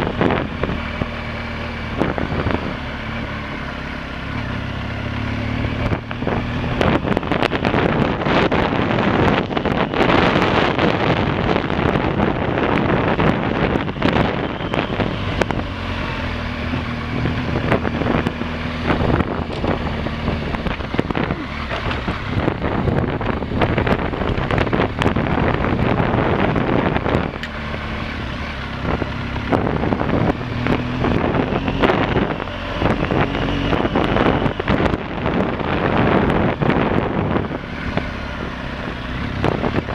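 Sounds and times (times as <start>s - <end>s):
wind buffeting microphone: 0.0s - 1.2s, 1.8s - 2.9s, 5.7s - 39.9s
motorcycle engine running: 0.0s - 39.9s.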